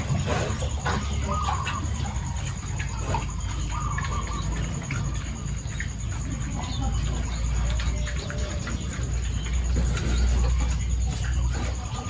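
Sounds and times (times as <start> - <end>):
animal calls: 0.0 - 12.0.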